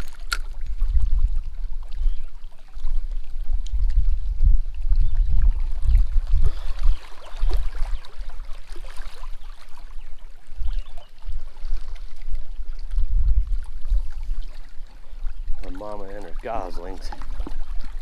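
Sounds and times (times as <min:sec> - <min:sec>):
small waves lapping on rocks: 0:00.0 - 0:04.2, 0:04.9 - 0:18.0
wind buffeting microphone: 0:00.0 - 0:18.0.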